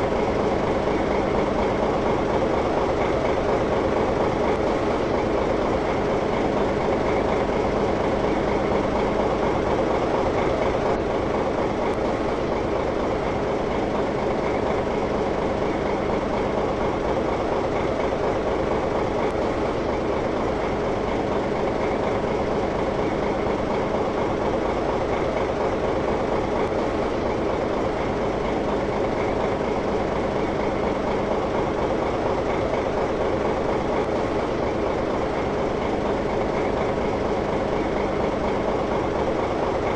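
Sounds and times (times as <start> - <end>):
motor humming steadily: 0.0 - 39.9.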